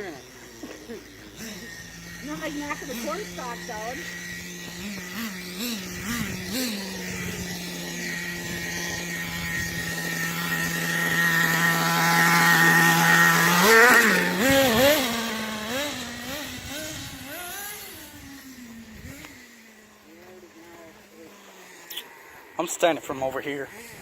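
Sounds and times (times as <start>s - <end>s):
rc car engine revving: 0.0s - 24.0s.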